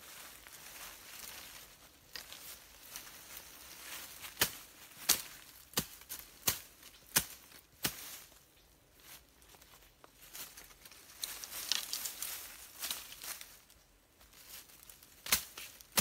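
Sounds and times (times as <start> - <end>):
rustling in dry leaves: 0.0 - 16.0.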